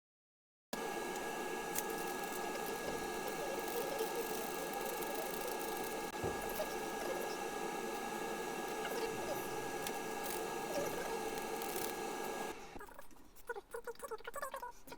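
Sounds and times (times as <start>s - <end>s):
sped-up kitchen cooking noise: 0.8s - 14.8s.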